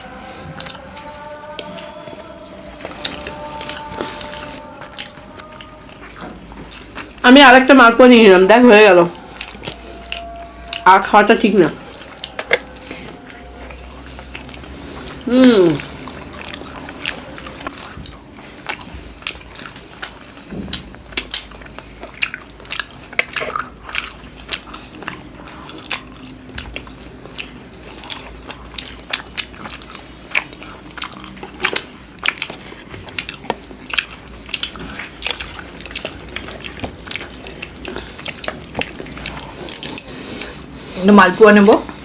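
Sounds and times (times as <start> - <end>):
biting and chewing food: 0.0 - 42.0.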